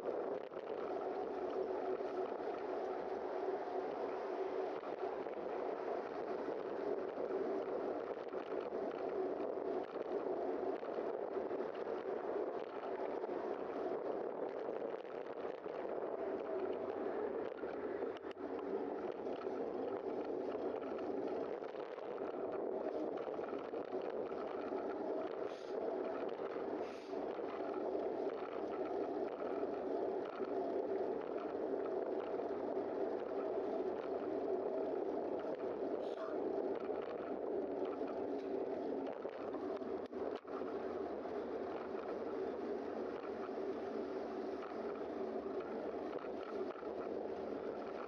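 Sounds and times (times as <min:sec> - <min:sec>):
muffled wind rush: 0:00.0 - 0:48.0.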